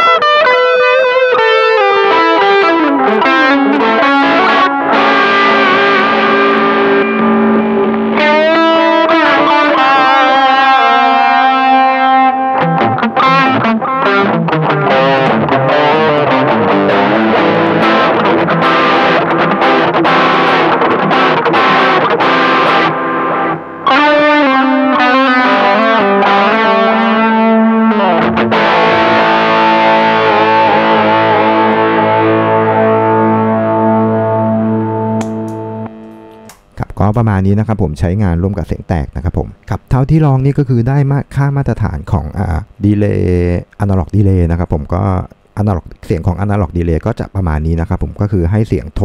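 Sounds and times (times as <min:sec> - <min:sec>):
distorted electric guitar with echo: 0:00.0 - 0:49.0.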